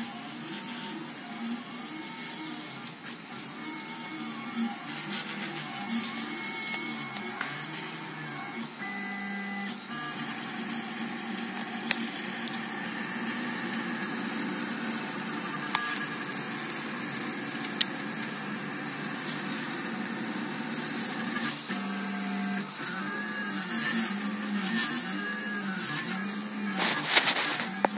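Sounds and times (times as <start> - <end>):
stepper motors whining: 0.0 - 27.9.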